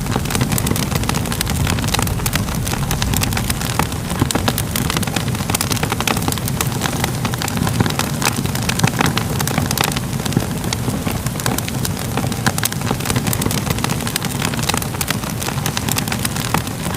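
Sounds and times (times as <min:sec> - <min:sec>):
fire crackling and popping: 0:00.0 - 0:16.9.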